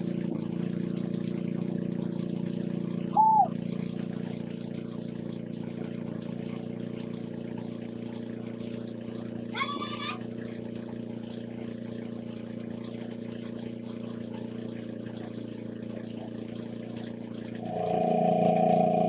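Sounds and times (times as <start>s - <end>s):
motor running: 0.0s - 19.0s.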